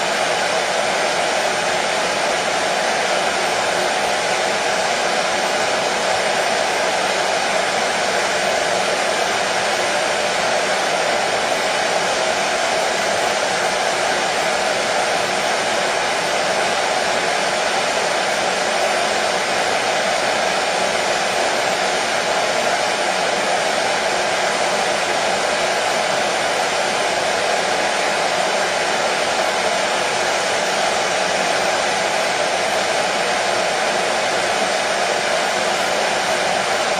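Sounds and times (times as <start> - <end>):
hair dryer running: 0.0 - 36.9.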